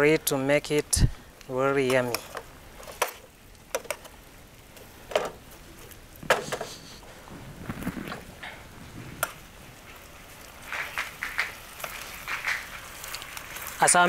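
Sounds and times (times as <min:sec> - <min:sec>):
sauce sizzling: 0:00.0 - 0:14.0.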